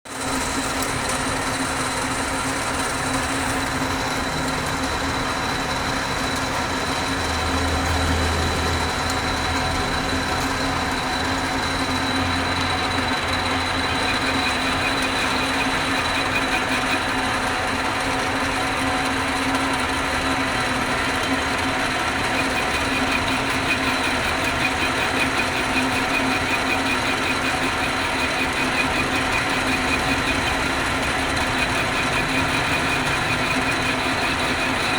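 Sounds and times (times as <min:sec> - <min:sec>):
lathe motor humming: 0:00.1 - 0:34.9.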